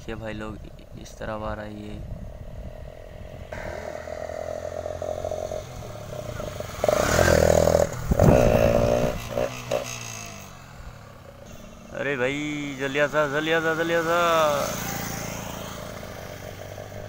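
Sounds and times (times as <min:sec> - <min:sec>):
motorcycle passing at speed: 0:02.0 - 0:17.0.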